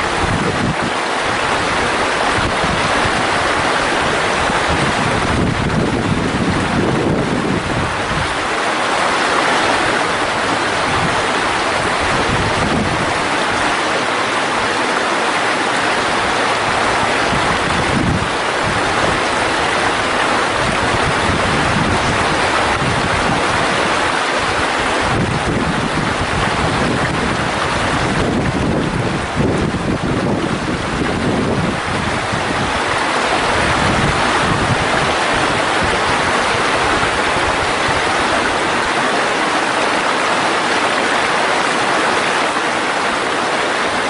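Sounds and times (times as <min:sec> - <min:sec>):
stream rushing: 0:00.0 - 0:44.0
wind rumble on microphone: 0:00.0 - 0:44.0.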